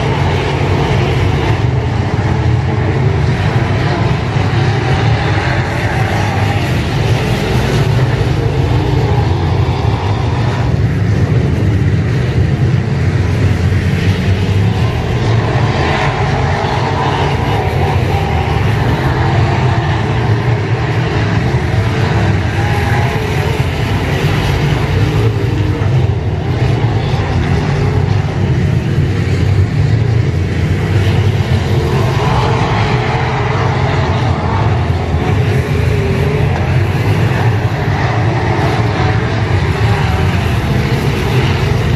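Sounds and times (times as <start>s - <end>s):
race car engines droning: 0.0s - 41.9s.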